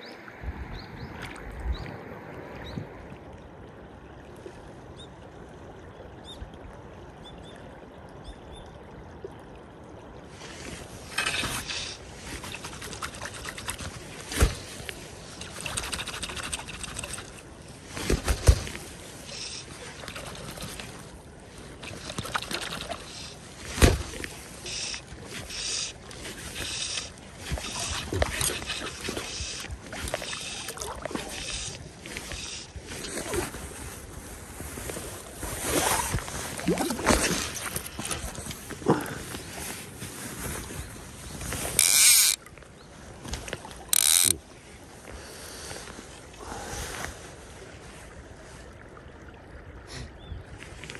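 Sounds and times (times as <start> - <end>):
river water lapping: 0.0 - 50.9.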